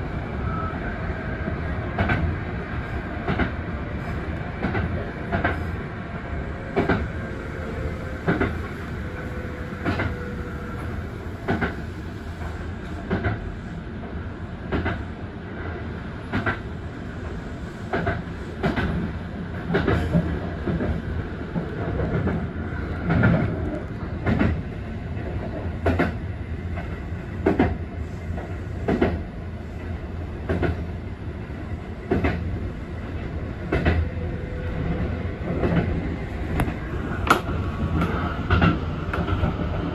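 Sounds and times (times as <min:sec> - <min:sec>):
electric train rumble: 0:00.0 - 0:39.9.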